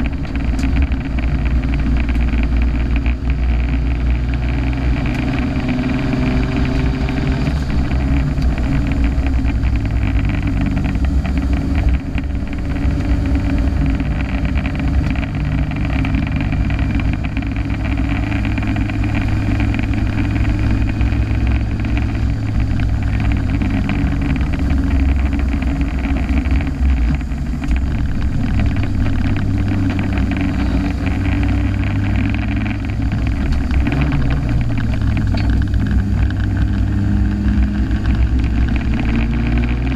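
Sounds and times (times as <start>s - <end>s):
car engine running hard: 0.0s - 39.9s
tyre and road noise: 0.0s - 39.9s.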